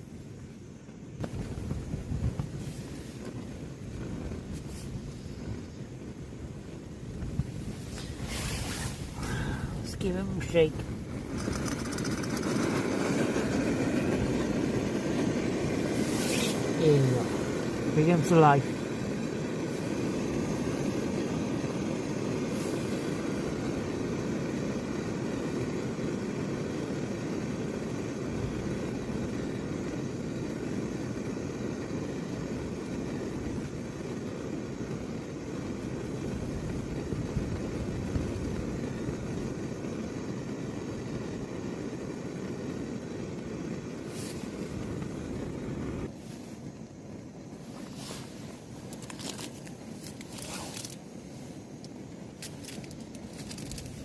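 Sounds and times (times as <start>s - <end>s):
gas stove burner running: 9.0s - 54.0s.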